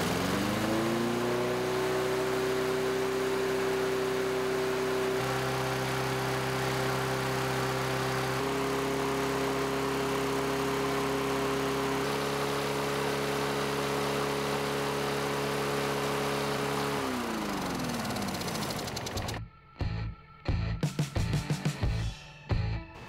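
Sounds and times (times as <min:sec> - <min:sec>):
lawn mower engine running: 0:00.0 - 0:19.4.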